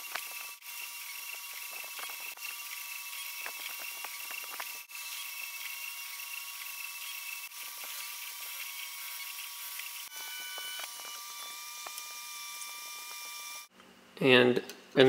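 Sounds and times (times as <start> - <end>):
stepper motors whining: 0.0 - 13.7.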